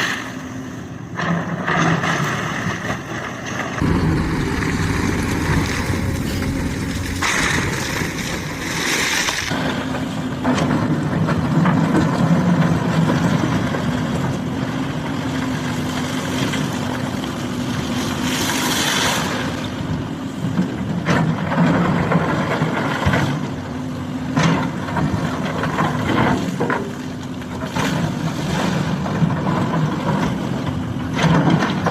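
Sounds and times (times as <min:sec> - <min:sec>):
excavator diesel engine running: 0:00.3 - 0:31.9.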